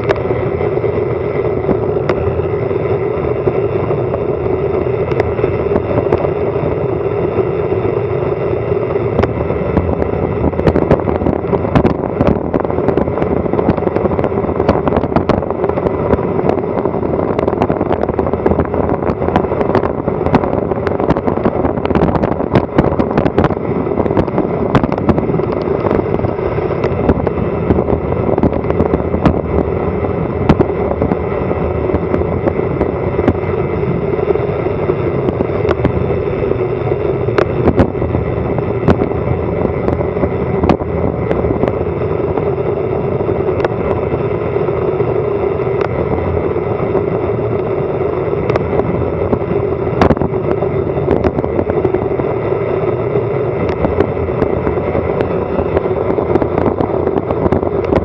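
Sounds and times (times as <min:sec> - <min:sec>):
road rumble: 0:00.0 - 0:58.0
wind rushing over microphone: 0:00.0 - 0:58.0.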